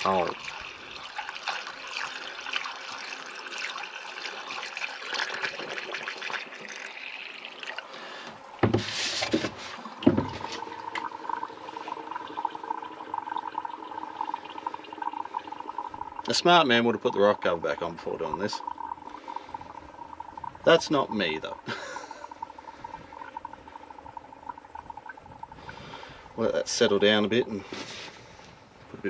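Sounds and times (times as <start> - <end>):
water pouring and splashing: 0.0 - 28.2.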